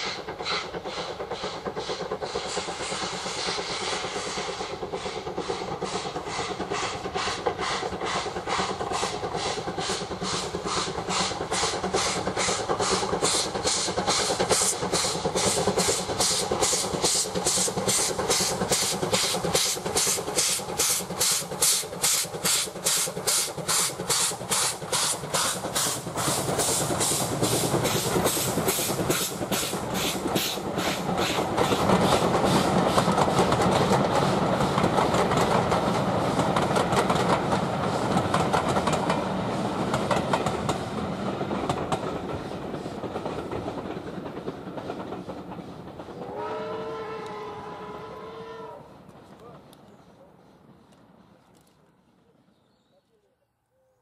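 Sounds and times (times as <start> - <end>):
steam locomotive exhaust beats: 0.0 - 52.3
train coaches rolling on rails: 0.0 - 53.2.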